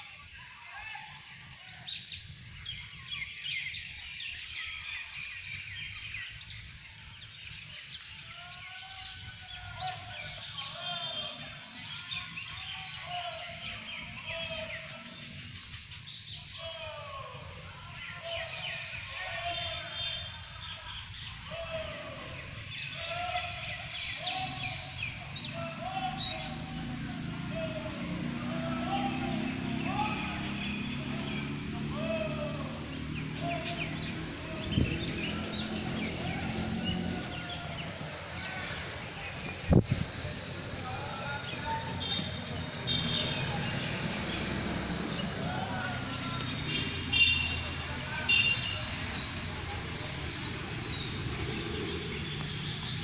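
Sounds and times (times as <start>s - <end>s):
small birds chirping: 0.0s - 53.0s
drawn-out bird calls: 7.5s - 53.0s.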